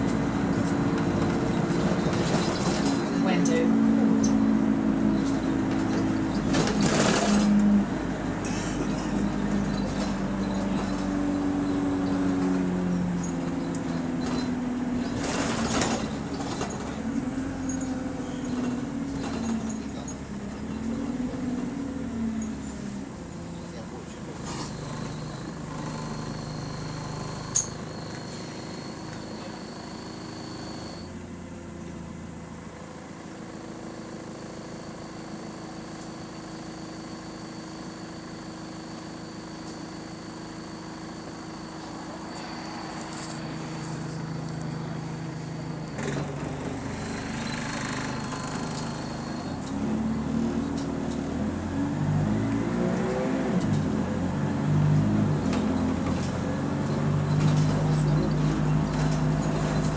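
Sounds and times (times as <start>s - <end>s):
bus engine idling and accelerating: 0.0s - 59.9s.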